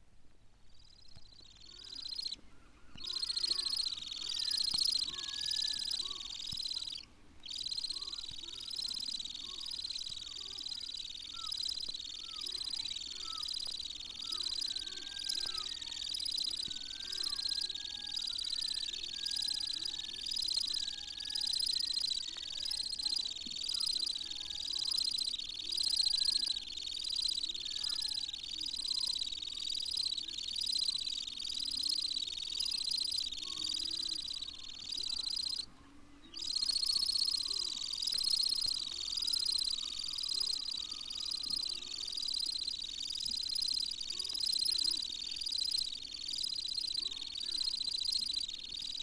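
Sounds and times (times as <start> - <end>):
lower bird calls: 0.8 - 35.7, 36.3 - 49.0
bird trilling: 1.1 - 35.7, 36.3 - 49.0.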